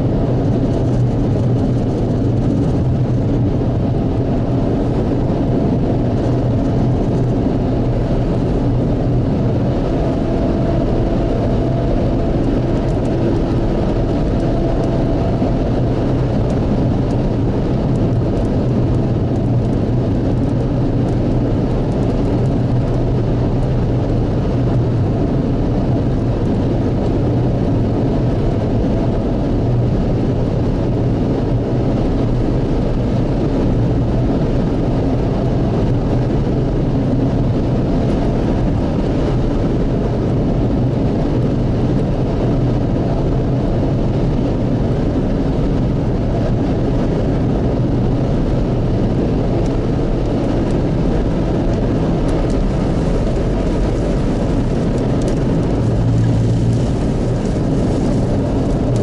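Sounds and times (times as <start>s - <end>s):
car driving at highway speed: 0.0s - 59.0s.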